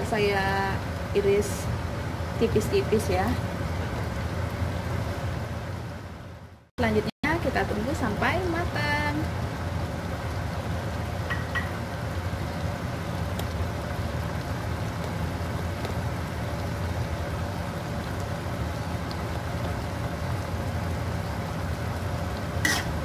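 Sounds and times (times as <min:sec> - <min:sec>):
low steady hum: 0:00.0 - 0:23.0
sauce sizzling and bubbling in a wok: 0:00.0 - 0:23.0.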